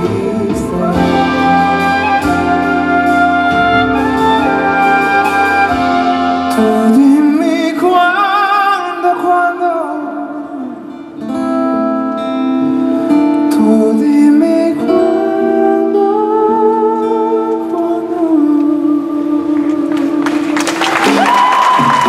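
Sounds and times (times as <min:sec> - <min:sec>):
man singing with vibrato: 0:00.0 - 0:12.3, 0:13.4 - 0:20.9
live band playing: 0:00.0 - 0:22.0.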